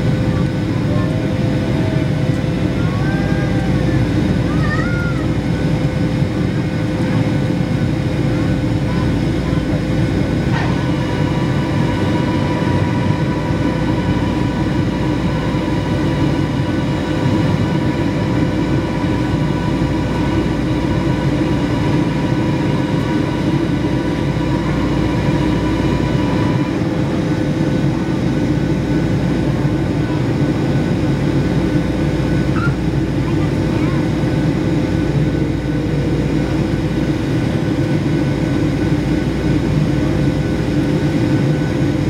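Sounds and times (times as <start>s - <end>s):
jet airliner cabin roar: 0.0s - 42.0s
thin steady whine: 0.0s - 42.0s.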